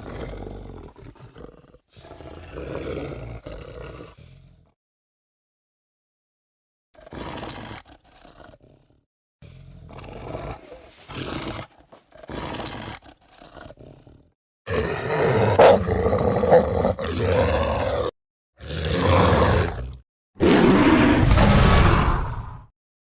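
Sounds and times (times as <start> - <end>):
creature growls and roars: 0.0 - 4.8, 7.0 - 22.7.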